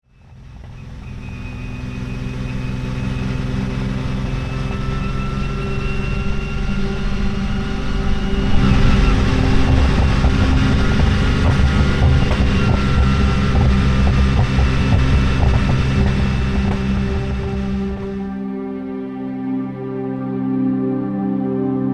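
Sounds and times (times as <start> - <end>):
car engine running: 0.1 - 18.8.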